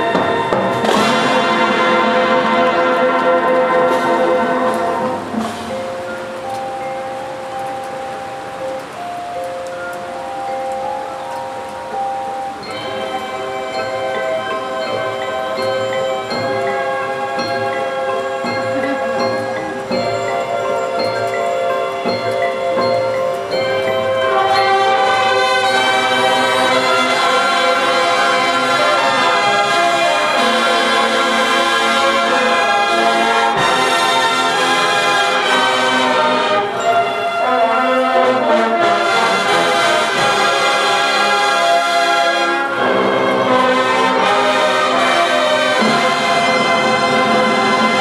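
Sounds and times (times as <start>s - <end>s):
brass chords: 0.0s - 7.6s, 11.4s - 48.0s
marching percussion: 0.0s - 48.0s.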